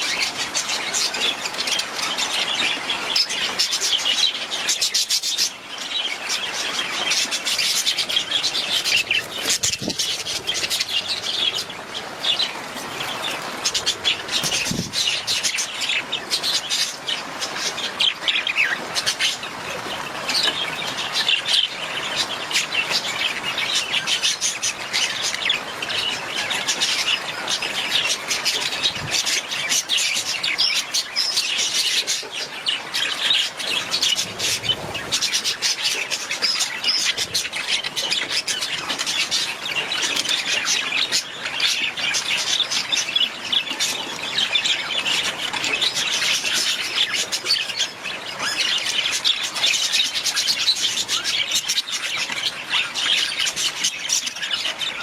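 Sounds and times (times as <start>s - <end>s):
budgerigars chirping and chattering: 0.0s - 55.0s.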